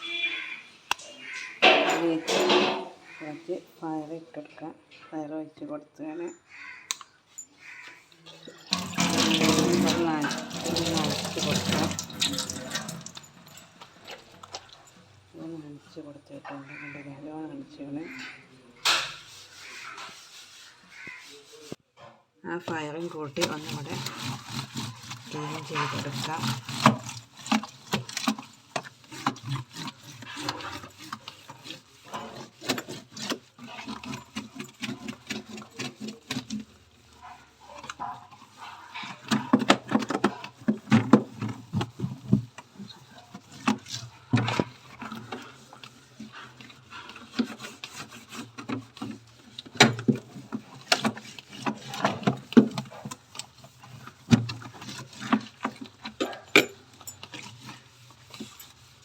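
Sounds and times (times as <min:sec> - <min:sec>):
scrubbing inside refrigerator: 0:07.6 - 0:17.0, 0:19.0 - 0:21.8, 0:22.7 - 0:59.0.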